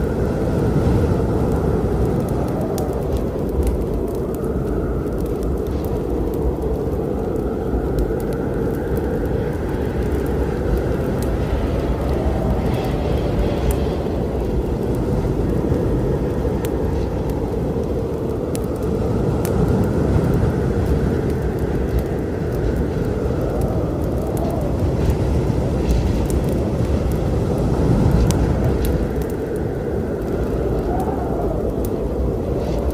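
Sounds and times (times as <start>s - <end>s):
low storm rumble: 0.0s - 32.9s
wood fire crackling: 0.0s - 32.9s.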